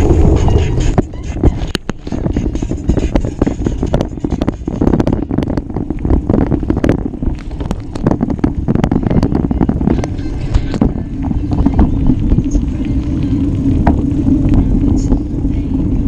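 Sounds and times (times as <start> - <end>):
bicycle clicking and rattling: 0.0 - 16.0
wind buffeting microphone: 0.0 - 16.0.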